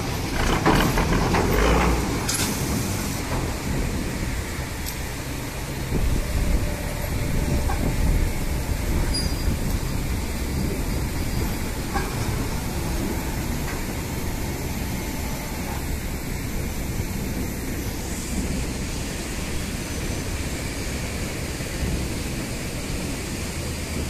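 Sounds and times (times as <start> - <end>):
heavy machinery rumble: 0.0 - 24.0.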